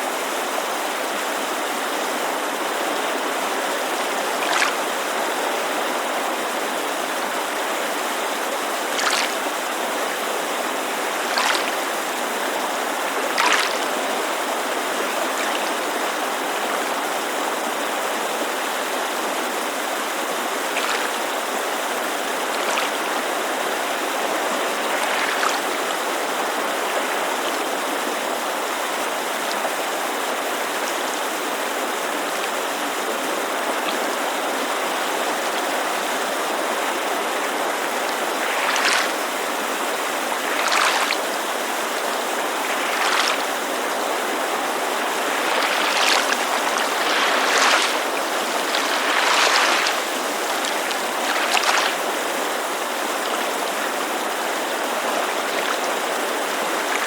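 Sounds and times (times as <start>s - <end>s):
creek rushing: 0.0s - 57.0s
water lapping splashes: 1.5s - 30.0s, 32.1s - 57.0s.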